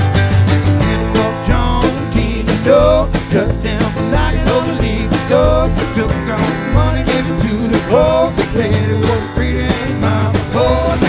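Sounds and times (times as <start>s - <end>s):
live country-rock band playing: 0.0s - 11.0s
sliding guitar lead line: 0.0s - 11.0s.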